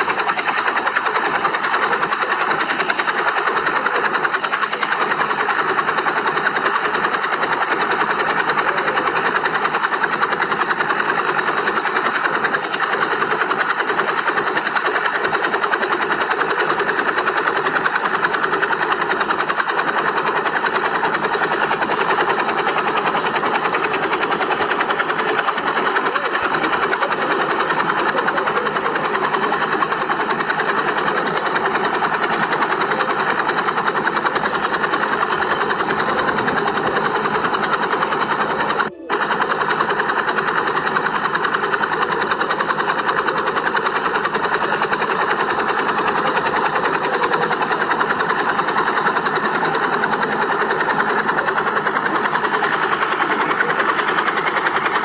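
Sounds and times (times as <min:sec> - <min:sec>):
small motor rattling buzz: 0:00.0 - 0:55.0.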